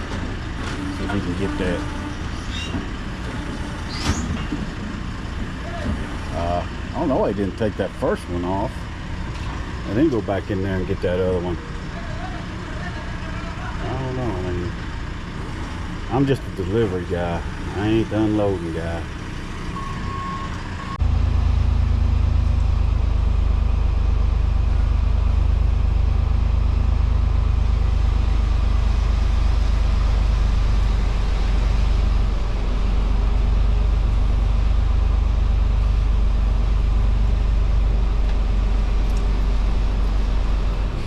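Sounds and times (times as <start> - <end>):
truck engine rumbling: 0.0 - 41.0.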